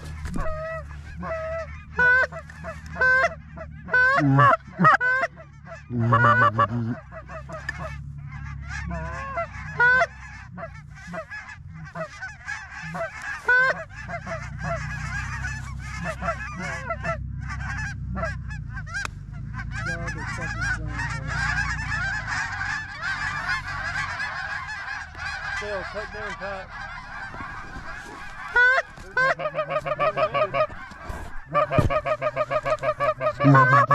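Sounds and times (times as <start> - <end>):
geese honking: 0.0 - 33.9
low rumble: 0.0 - 33.9.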